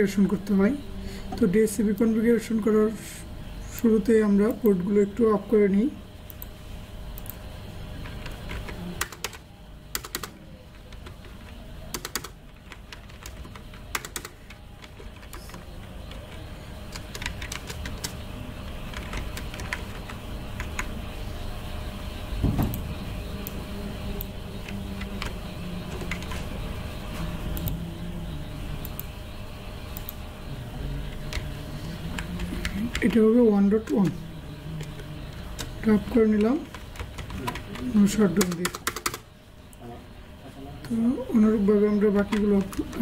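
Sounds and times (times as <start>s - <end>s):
low background hum: 0.0s - 43.0s.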